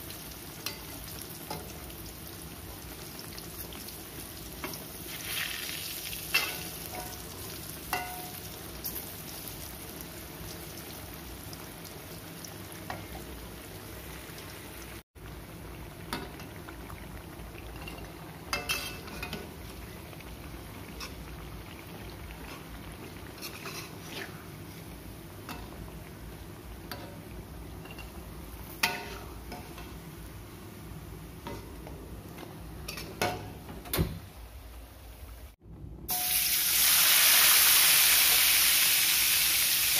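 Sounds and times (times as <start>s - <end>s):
food sizzling in oil: 0.0s - 33.7s, 36.1s - 39.9s.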